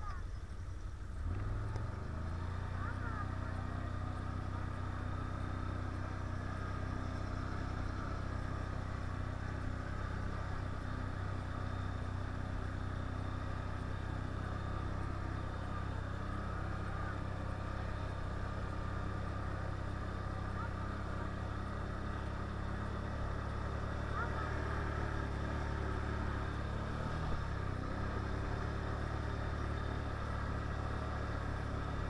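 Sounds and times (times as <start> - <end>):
quad bike engine running: 0.0 - 32.0.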